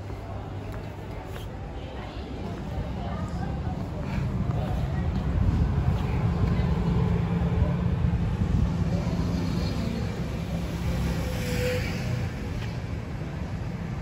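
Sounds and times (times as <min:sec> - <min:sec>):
low rumble of car traffic: 0:00.0 - 0:14.0.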